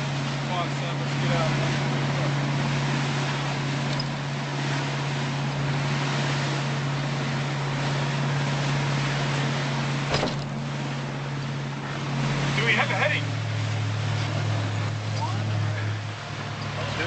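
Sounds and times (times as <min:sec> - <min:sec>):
motorboat engine droning: 0:00.0 - 0:17.0
wind and water rushing: 0:00.0 - 0:17.0.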